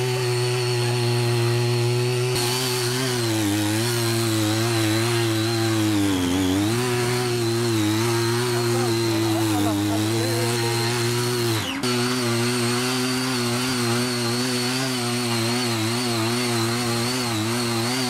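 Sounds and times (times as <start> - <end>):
tines churning muddy soil: 0.0 - 18.0
two-stroke tiller engine labouring: 0.0 - 18.0.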